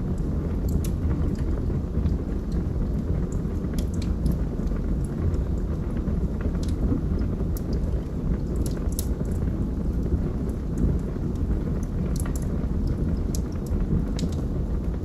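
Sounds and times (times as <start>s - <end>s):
log fire rumbling: 0.0s - 15.0s
wood crackling and popping: 0.0s - 15.0s.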